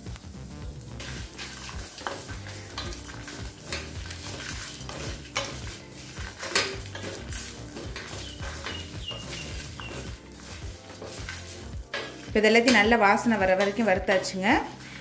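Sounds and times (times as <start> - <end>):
wooden spatula scraping a pan: 0.9 - 15.0.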